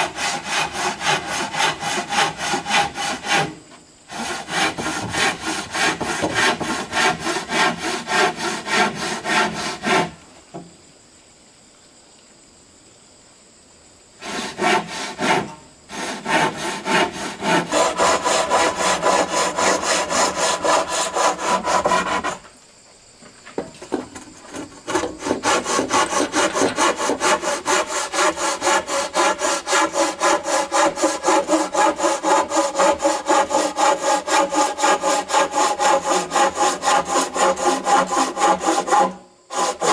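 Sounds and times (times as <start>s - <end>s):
handsaw cutting wood: 0.0s - 10.2s, 14.2s - 22.5s, 24.5s - 39.9s.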